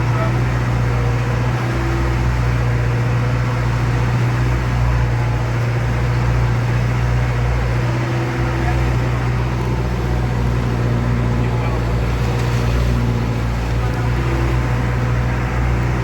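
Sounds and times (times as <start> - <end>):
boat engine droning: 0.0 - 16.0
water noise: 0.0 - 16.0.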